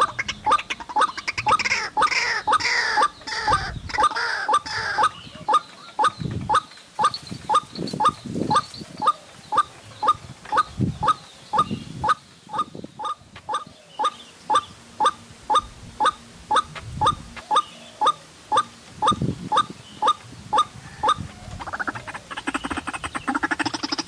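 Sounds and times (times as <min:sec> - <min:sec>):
loud wavering bird call: 0:00.0 - 0:24.0.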